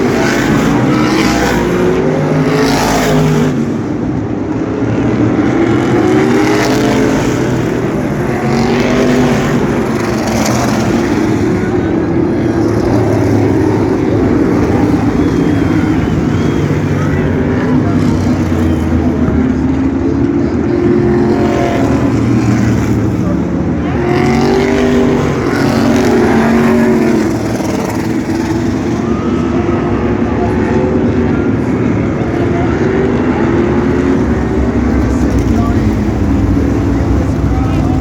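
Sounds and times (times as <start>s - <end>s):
race car engines passing: 0.0s - 38.0s.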